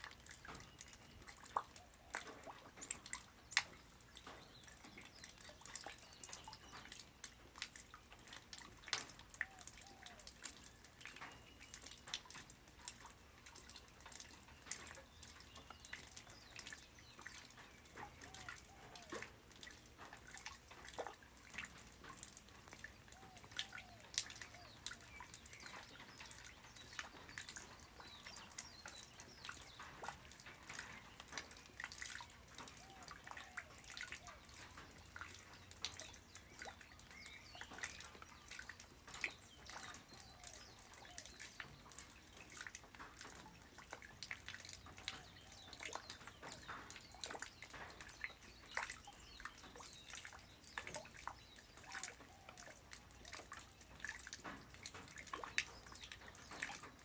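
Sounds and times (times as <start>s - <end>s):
light rain pattering: 0.0s - 57.0s
water drips: 0.0s - 57.0s.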